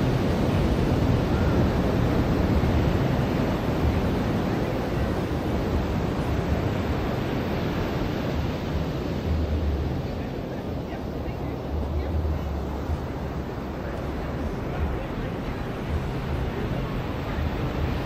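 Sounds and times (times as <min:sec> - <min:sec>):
ocean surf washing onto beach: 0:00.0 - 0:18.0.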